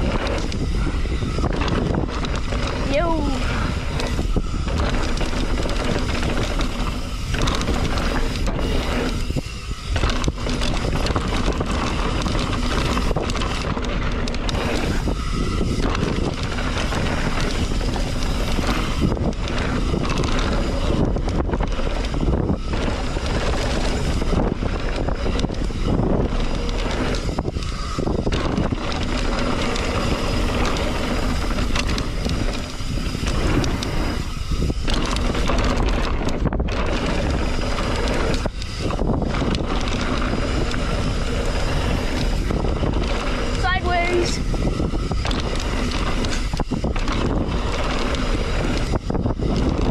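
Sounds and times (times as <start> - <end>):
bike tyres rolling on dirt: 0.0 - 49.9
wind rush on microphone: 0.0 - 49.9.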